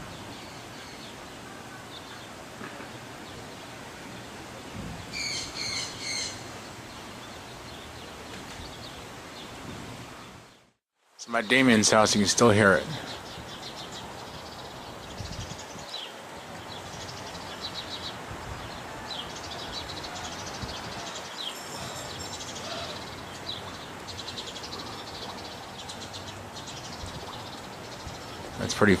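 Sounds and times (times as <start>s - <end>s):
birds chirping: 0.0s - 29.0s
steady background hiss: 0.0s - 29.0s.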